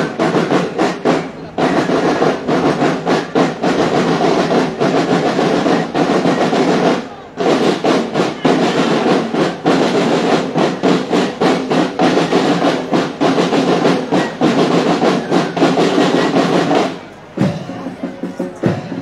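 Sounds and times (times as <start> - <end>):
marching drum band: 0.0 - 19.0.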